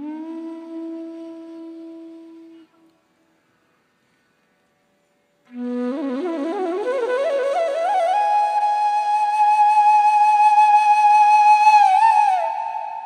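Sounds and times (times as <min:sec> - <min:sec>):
bansuri flute melody: 0:00.0 - 0:03.2, 0:05.4 - 0:13.0.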